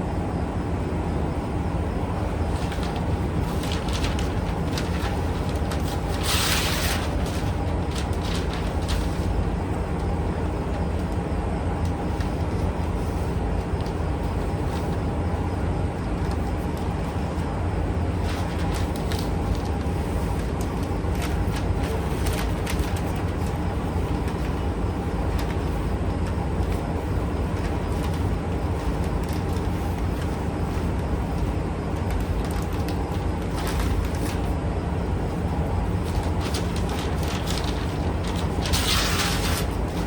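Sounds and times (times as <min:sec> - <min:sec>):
mechanical drone with low hum: 0:00.0 - 0:40.0.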